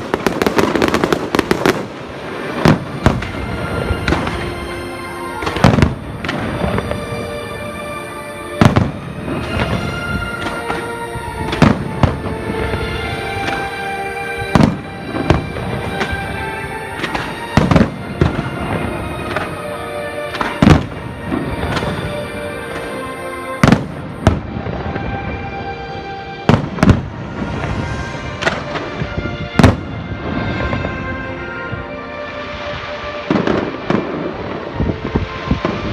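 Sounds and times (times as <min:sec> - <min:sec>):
fireworks bursting with sharp bangs: 0:00.0 - 0:35.9
music playing: 0:00.0 - 0:35.9.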